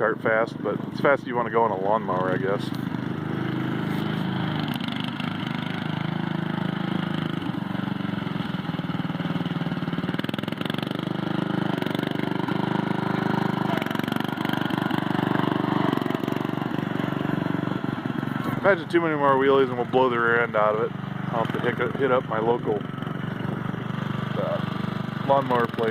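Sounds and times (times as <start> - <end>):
lawn tractor engine running: 0.0 - 25.9.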